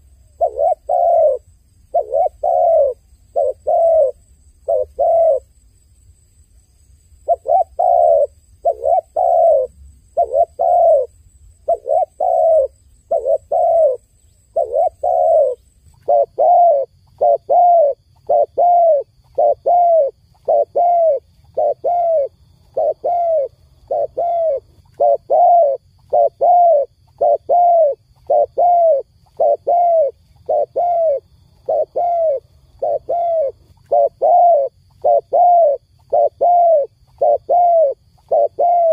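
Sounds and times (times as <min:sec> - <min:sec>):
dove cooing: 0:00.0 - 0:05.5, 0:07.2 - 0:38.9.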